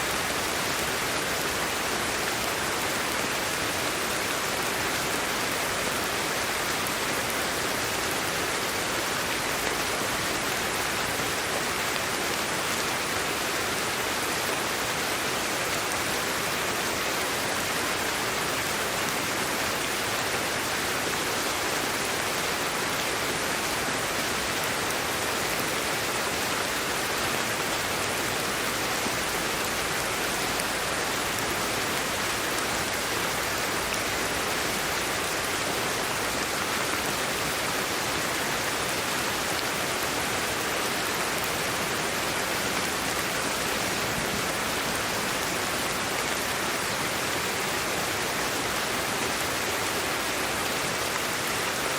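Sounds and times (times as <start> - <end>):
white noise hiss: 0.0 - 51.9.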